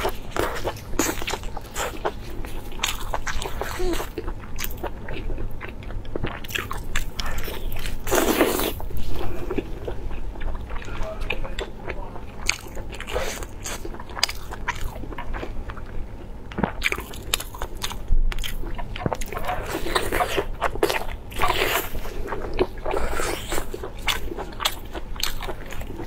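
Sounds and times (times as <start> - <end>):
biting and chewing sausage: 0.0 - 26.0.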